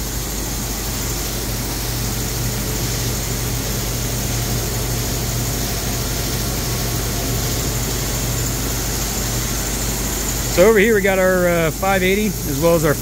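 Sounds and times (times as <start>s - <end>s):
printer humming with hiss: 0.0s - 13.0s.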